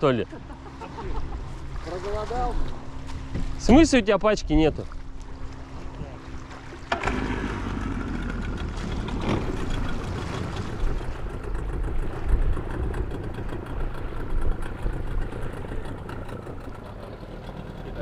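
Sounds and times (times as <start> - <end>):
motorboat engine rumbling: 0.0 - 18.0.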